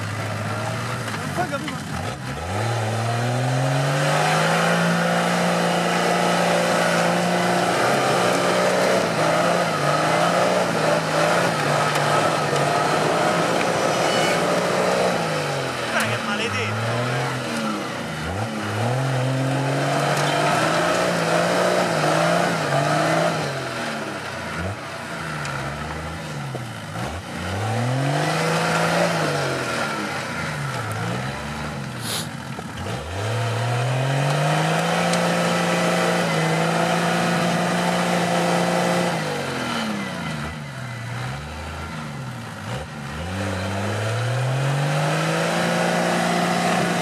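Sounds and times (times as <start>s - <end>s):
off-road vehicle engine revving: 0.0s - 47.0s.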